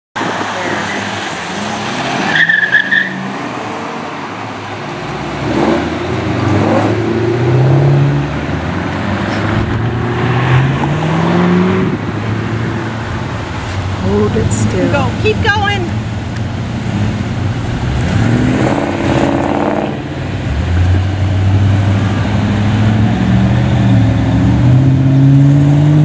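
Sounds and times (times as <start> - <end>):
cars driving past revving: 0.2 - 26.0.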